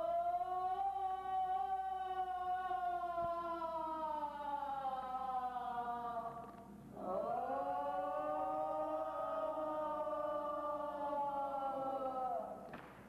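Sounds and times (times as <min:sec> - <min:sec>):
wordless chanted vocal lament: 0:00.0 - 0:12.7.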